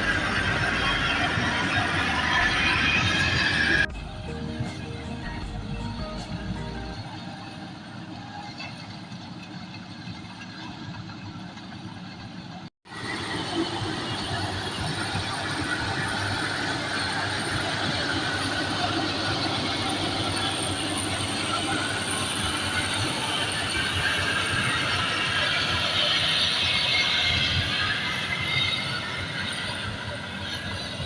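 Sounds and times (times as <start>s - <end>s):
combine harvester rattling: 0.0s - 31.0s.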